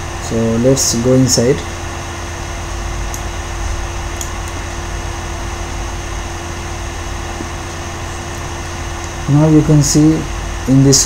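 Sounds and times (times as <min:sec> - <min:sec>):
air-handling fans humming: 0:00.0 - 0:11.0.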